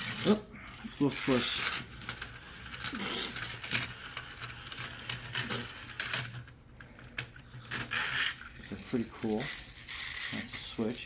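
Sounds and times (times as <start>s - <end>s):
plastic toy clicks and clatter: 0.0s - 11.0s.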